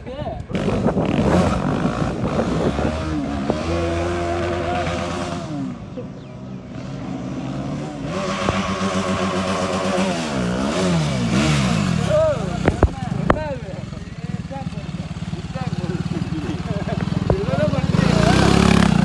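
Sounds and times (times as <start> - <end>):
motorcycle engine revving: 0.5 - 19.0.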